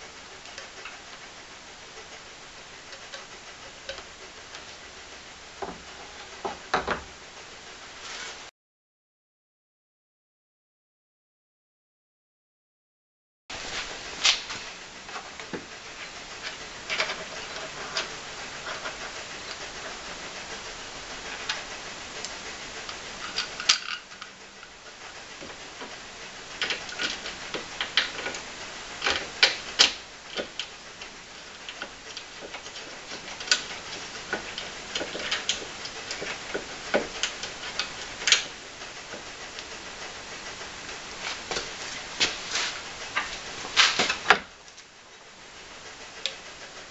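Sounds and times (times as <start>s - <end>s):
steady hiss: 0.0s - 8.5s, 13.5s - 46.9s.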